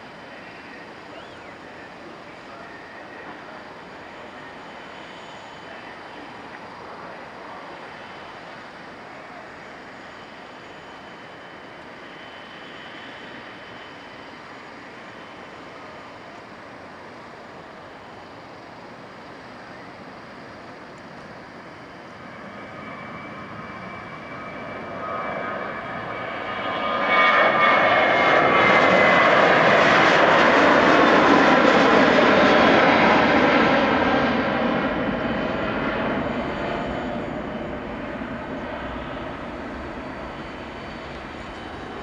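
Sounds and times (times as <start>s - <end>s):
jet engines at takeoff: 0.0s - 42.0s.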